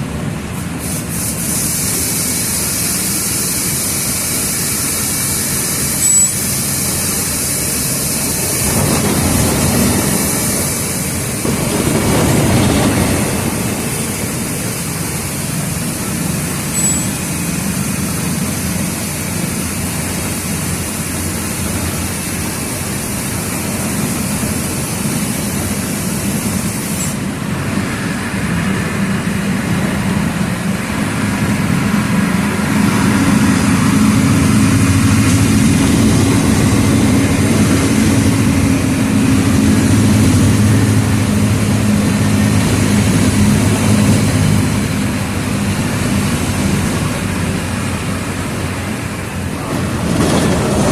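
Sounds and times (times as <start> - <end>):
bus diesel engine running: 0.0 - 50.9
tyre and road noise: 0.0 - 50.9.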